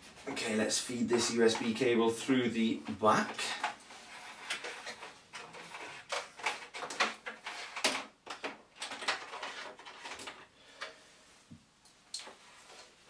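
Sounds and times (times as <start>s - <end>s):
cable scraping and rustling: 0.0s - 11.5s, 12.2s - 13.0s.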